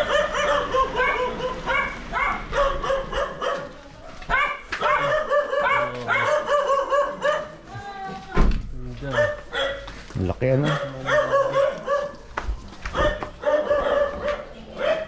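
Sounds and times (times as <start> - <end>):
dog yapping: 0.0 - 7.6, 9.1 - 9.9, 10.6 - 12.3, 12.9 - 15.0.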